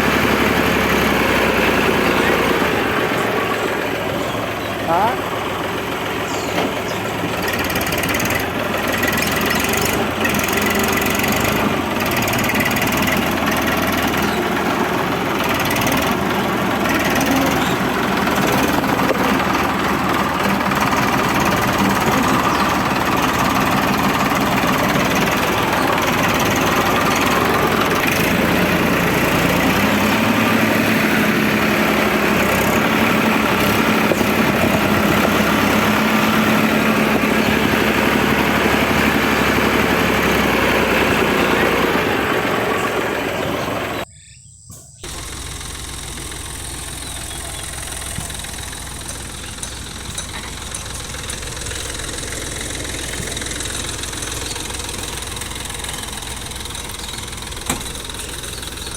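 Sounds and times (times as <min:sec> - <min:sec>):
small motor running: 0:06.2 - 0:41.7, 0:45.0 - 0:58.9.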